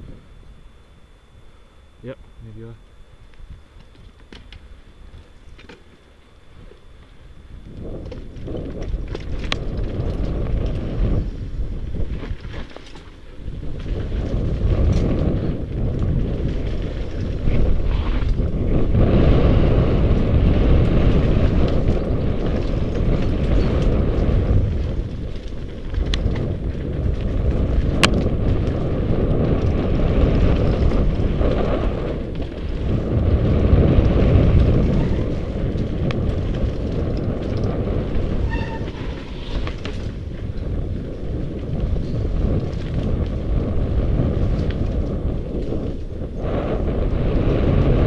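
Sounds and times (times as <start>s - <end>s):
wind rushing over microphone: 0.0s - 5.6s, 6.4s - 48.0s
bike tyre and frame rumble: 0.0s - 48.0s.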